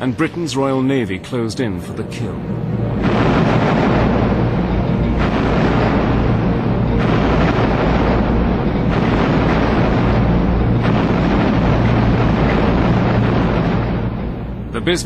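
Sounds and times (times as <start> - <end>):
naval gunfire and explosions: 0.0 - 15.0.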